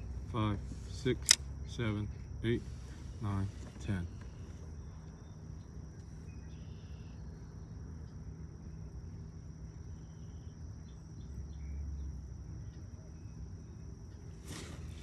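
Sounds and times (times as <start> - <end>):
insect chirps: 0.0 - 15.0
insects droning: 0.0 - 15.0
low outdoor rumble: 0.0 - 15.0.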